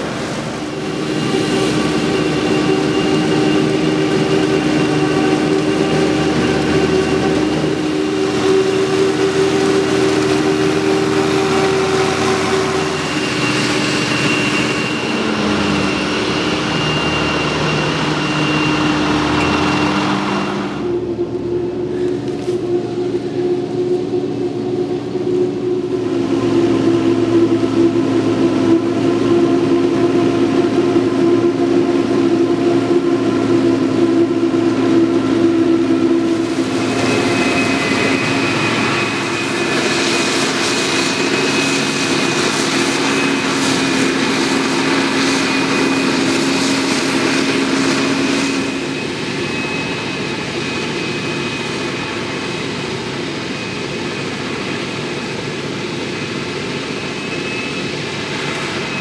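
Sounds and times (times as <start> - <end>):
forage harvester engine under load: 0.0 - 52.6
tractor engine running: 0.0 - 52.6
chopper and crop flow rushing: 0.0 - 59.0.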